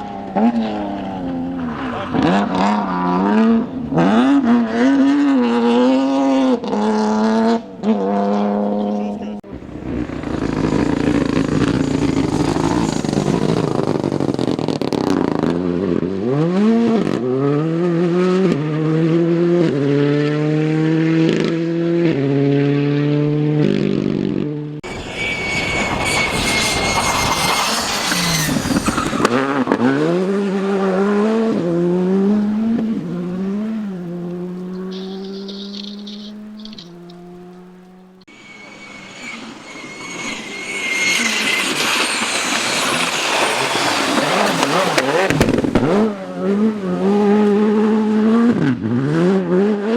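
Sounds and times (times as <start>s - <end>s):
rally car accelerating: 0.0s - 49.9s
rally car passing with high whine: 0.0s - 49.9s.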